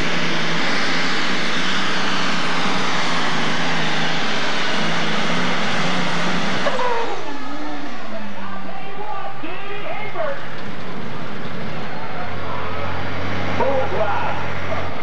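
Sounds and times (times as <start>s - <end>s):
tractor engine running flat out: 0.0s - 15.0s.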